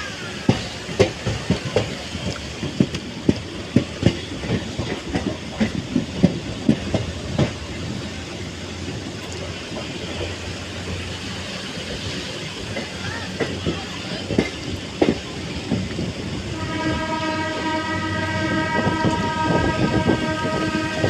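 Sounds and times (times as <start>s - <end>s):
train rumble and hiss: 0.0s - 21.0s
train wheels clacking over rails: 0.0s - 21.0s.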